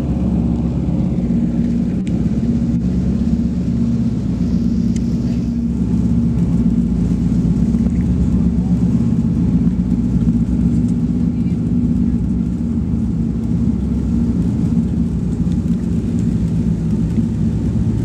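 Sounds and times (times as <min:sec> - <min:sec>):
propeller engines droning: 0:00.0 - 0:18.0.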